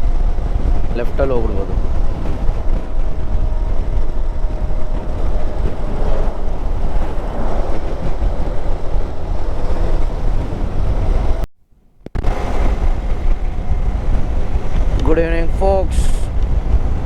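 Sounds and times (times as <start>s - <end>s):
engine and road rumble: 0.0s - 17.0s
wind buffeting microphone: 0.0s - 17.0s.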